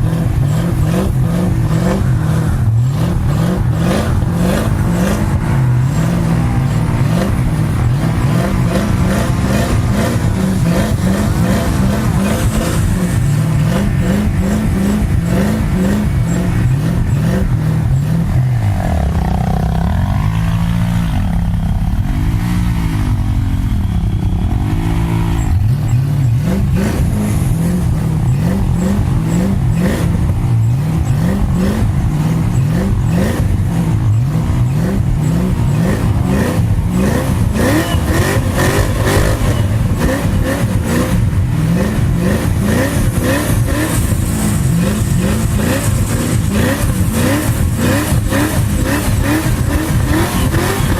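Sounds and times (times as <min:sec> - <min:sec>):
vehicle engine revving: 0:00.0 - 0:50.9.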